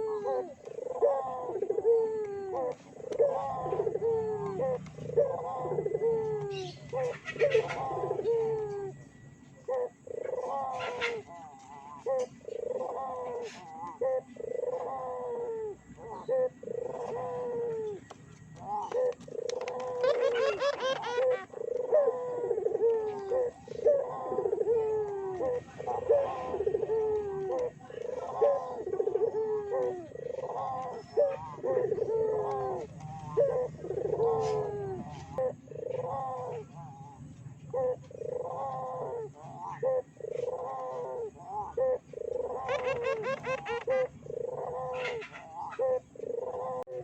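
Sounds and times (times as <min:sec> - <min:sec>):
doves cooing: 0:00.0 - 0:47.0.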